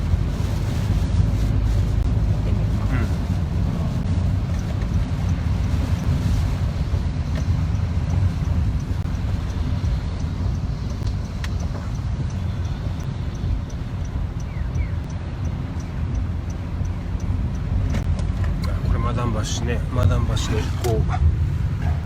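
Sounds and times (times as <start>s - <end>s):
road and engine rumble inside car: 0.0s - 22.0s
faint regular ticking: 2.0s - 21.6s.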